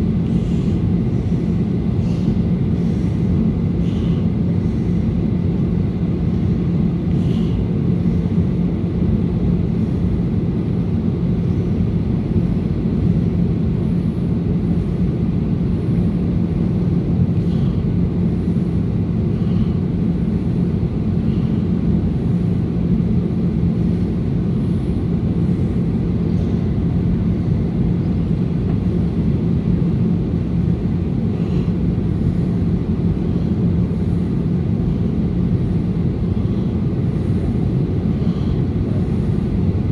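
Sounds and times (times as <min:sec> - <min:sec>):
jet engines and airflow hum: 0:00.0 - 0:39.9.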